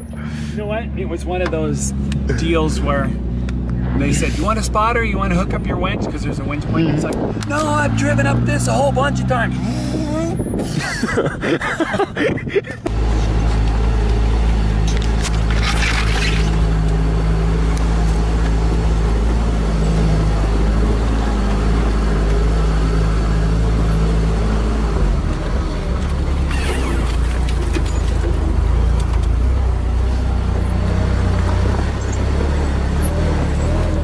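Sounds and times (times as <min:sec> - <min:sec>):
engine running at low speed: 0:00.0 - 0:34.0.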